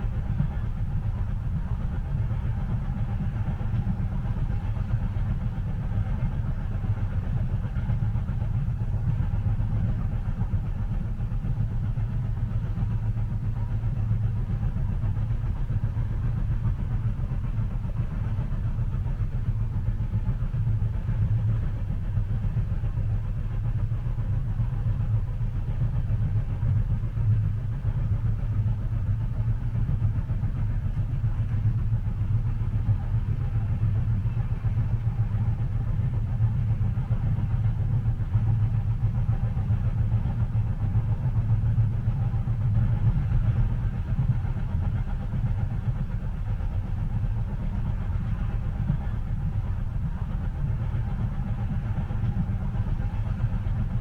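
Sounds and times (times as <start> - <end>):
train carriage low rumble: 0.0 - 54.0.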